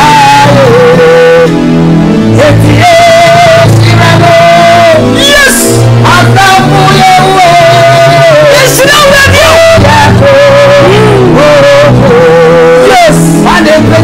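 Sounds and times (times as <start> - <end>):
instrumental backing chords and bass: 0.0 - 14.0
man singing gospel: 0.0 - 14.0.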